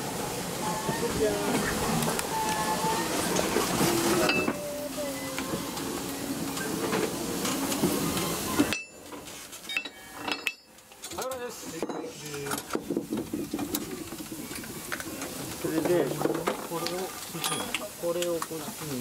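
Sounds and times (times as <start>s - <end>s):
steady steam hiss: 0.0s - 19.0s.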